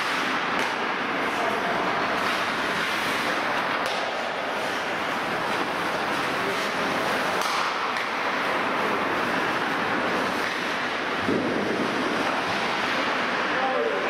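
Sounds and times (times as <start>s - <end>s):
skate scrapes and clicks: 0.0s - 13.5s
ice rink rushing noise: 0.0s - 14.0s.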